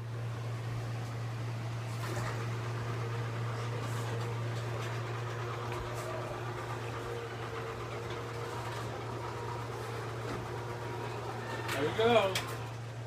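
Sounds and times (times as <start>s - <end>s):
garage door opener motor hum: 0.0s - 13.0s.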